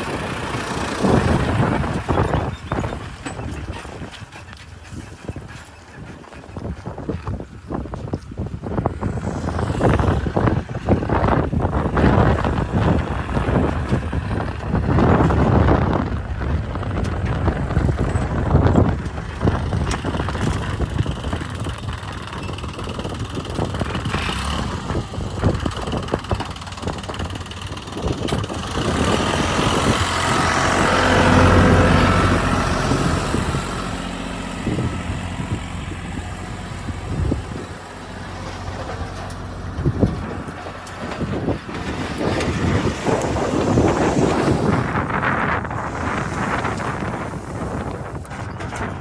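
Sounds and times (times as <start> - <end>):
diesel engine under load: 0.0 - 49.0.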